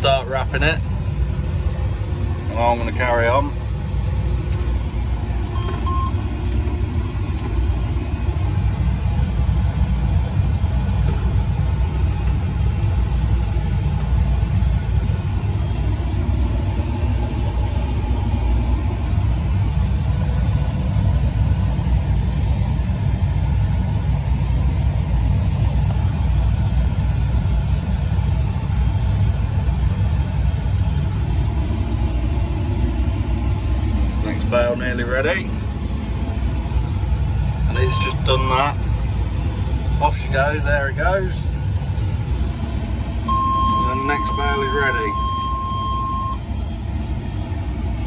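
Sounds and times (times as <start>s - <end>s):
tractor engine rumble: 0.0s - 48.0s.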